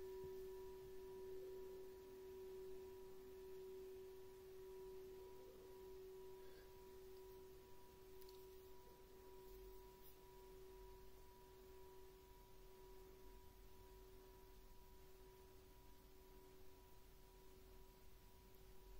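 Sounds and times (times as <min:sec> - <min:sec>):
singing bowl ringing: 0:00.0 - 0:18.9.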